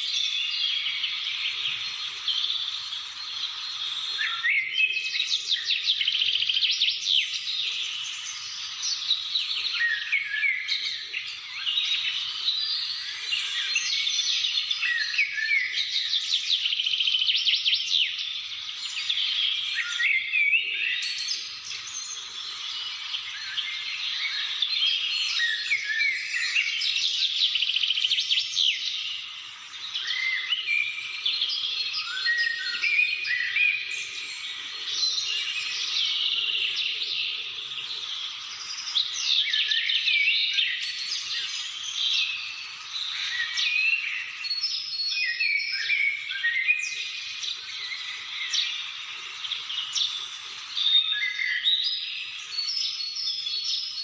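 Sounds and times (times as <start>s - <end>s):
birds chorus chirping: 0.0s - 54.0s.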